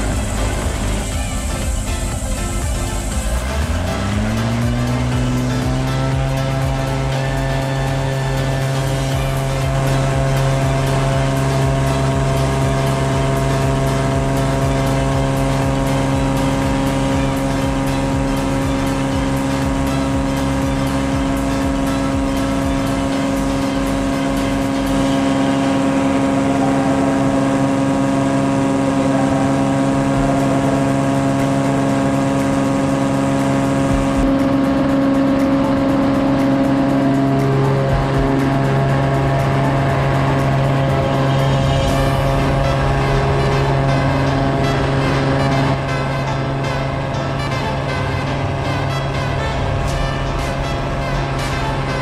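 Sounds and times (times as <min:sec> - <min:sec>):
airplane engine and propeller drone: 0:00.0 - 0:52.0.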